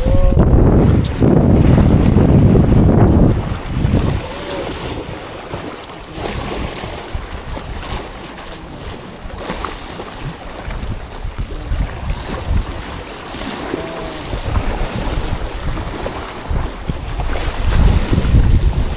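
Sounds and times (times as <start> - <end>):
sea waves: 0.0 - 18.9
wind buffeting the microphone: 0.0 - 18.9.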